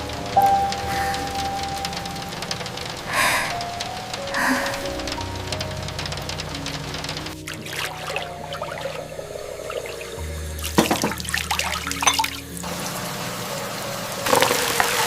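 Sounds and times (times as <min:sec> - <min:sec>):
soft sustained piano notes: 0:00.0 - 0:15.0
water trickling and dripping: 0:00.0 - 0:15.0.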